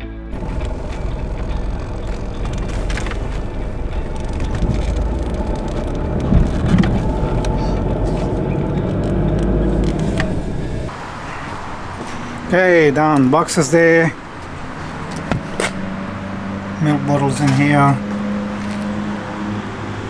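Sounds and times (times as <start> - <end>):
vehicle engine and road rumble: 0.3 - 20.0.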